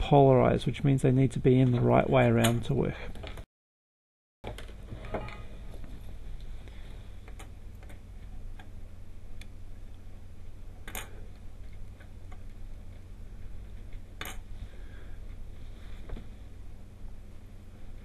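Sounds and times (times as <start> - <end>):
steady low hum: 0.0 - 3.4, 4.5 - 18.0.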